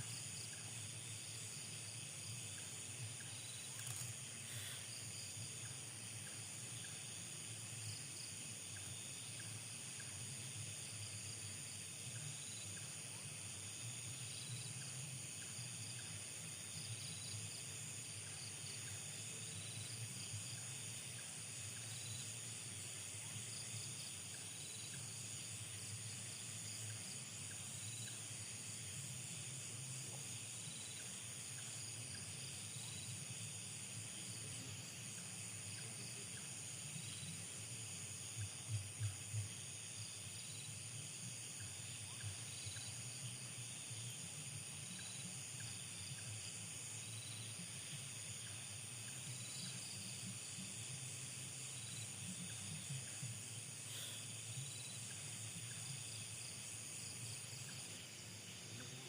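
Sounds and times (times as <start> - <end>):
insects trilling: 0.0 - 59.0
faint rhythmic chirps: 0.1 - 58.2.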